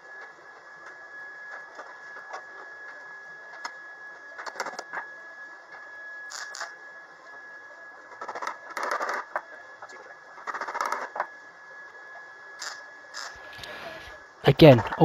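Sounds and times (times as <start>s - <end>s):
welder crackling buzz: 0.0s - 7.3s, 7.9s - 15.0s.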